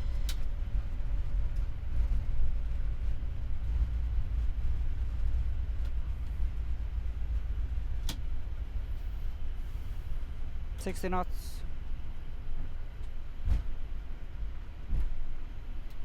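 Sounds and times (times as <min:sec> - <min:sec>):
low rumble in aircraft cockpit: 0:00.0 - 0:16.0.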